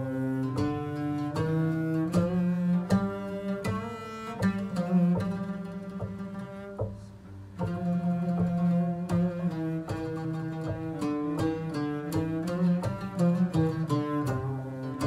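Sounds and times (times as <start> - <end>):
bowed cello melody: 0.0 - 15.0.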